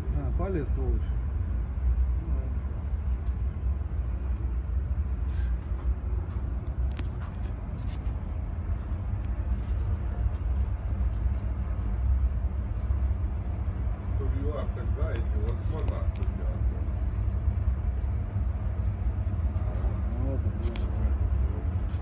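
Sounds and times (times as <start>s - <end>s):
low machinery rumble: 0.0s - 22.0s.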